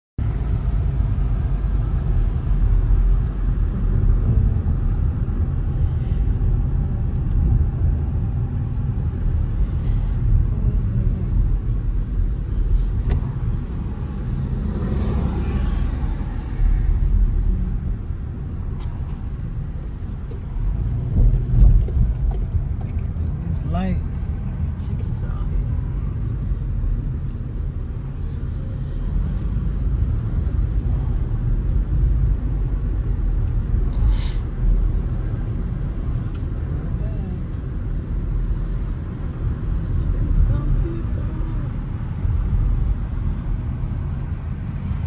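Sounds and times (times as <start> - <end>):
car interior driving rumble: 0.2 - 45.0.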